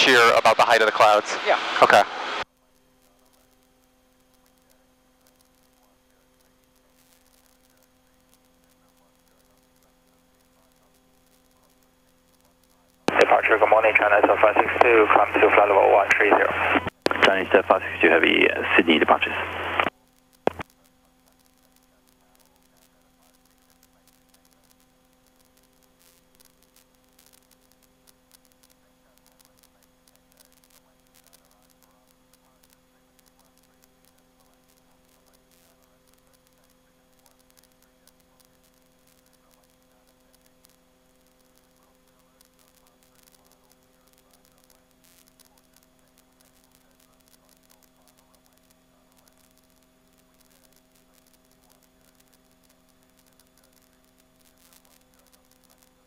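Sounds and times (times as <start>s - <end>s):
electrical hum with hiss: 0.0s - 56.0s.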